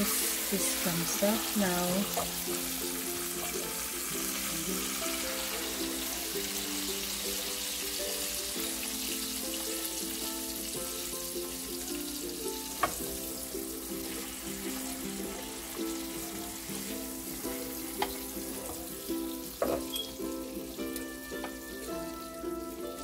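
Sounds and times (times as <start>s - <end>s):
background music: 0.0s - 23.0s
fat sizzling in roasting pan: 0.0s - 23.0s.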